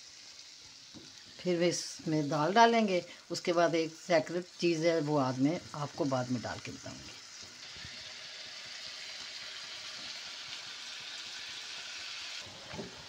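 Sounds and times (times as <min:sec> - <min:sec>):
masala sizzling in a frying pan: 0:00.0 - 0:13.0.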